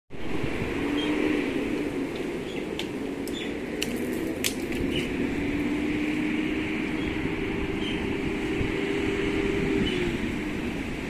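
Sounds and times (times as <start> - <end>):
engine hum: 0.1 - 11.0
road traffic rumble: 0.1 - 11.0.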